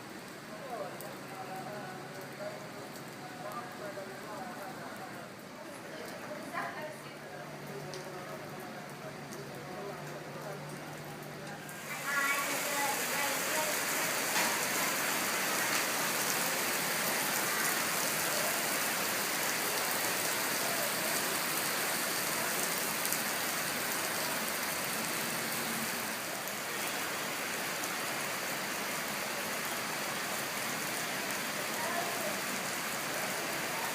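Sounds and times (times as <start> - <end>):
rain falling on hard surfaces: 0.0 - 33.9.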